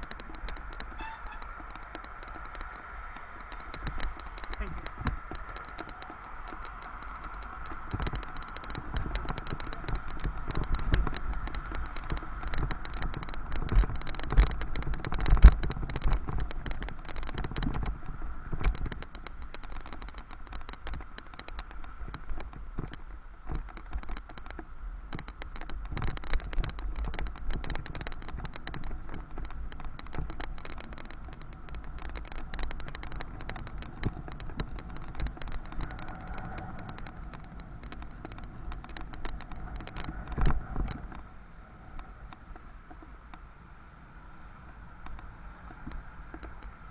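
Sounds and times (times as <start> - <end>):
bicycle rattling and clicking: 0.0 - 46.9.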